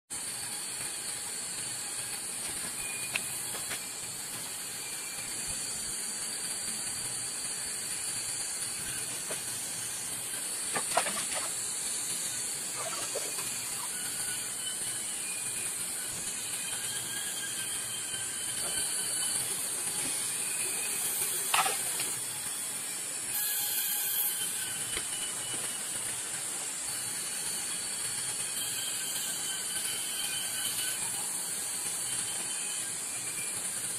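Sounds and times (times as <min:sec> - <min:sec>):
insects droning: 0:00.5 - 0:33.9.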